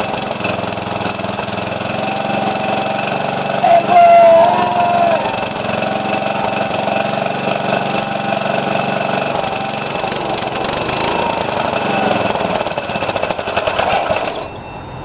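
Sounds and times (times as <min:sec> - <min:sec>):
lawn mower engine over-revving: 0:00.0 - 0:14.6.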